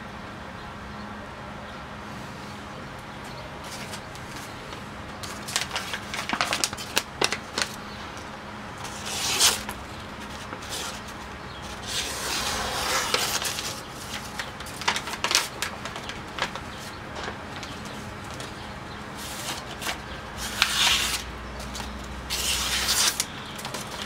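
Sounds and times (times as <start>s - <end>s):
newspaper crackling and rustling: 3.6s - 24.0s.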